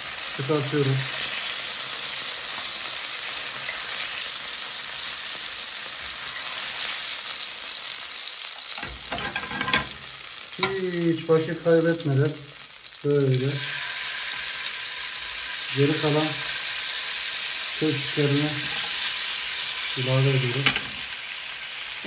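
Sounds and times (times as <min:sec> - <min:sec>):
meat sizzling in a grill pan: 0:00.0 - 0:22.0.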